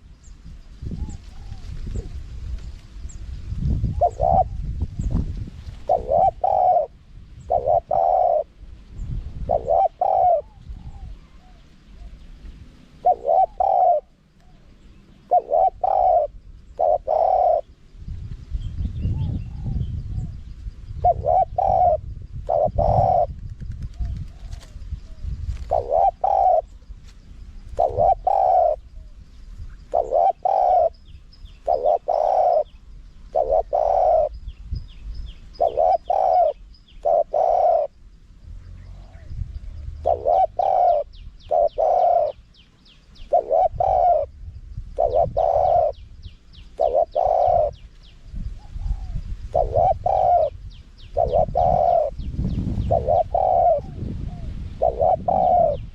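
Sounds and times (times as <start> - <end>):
dove cooing: 0.8 - 2.6, 3.8 - 5.2, 5.8 - 8.7, 9.3 - 17.8, 19.0 - 26.9, 27.6 - 34.6, 35.5 - 38.0, 38.6 - 55.9.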